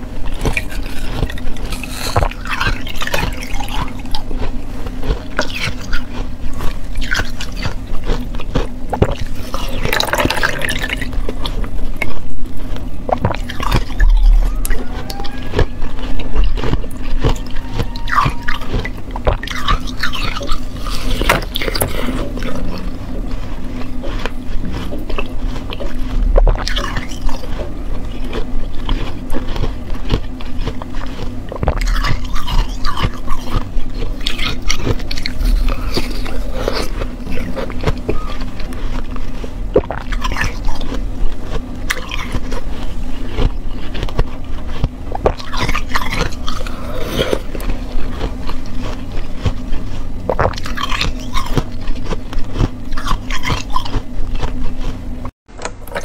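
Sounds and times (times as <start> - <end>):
ice crunching between teeth: 0.0 - 56.0
steady low hum: 0.0 - 56.0
wet slushy chewing: 0.0 - 56.0.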